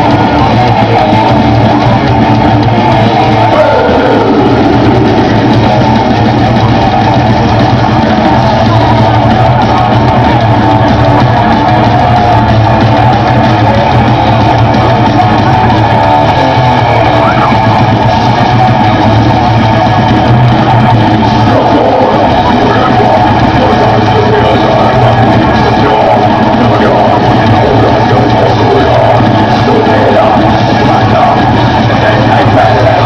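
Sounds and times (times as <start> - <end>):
drums: 0.0 - 33.0
electric guitar: 0.0 - 33.0.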